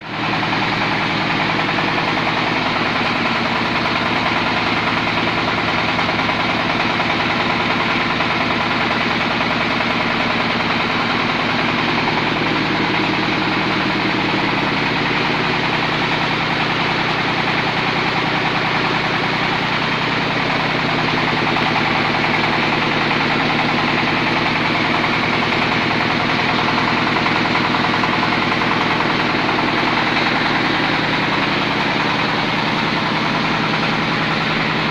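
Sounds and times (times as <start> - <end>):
meat grinder running: 0.0 - 34.9.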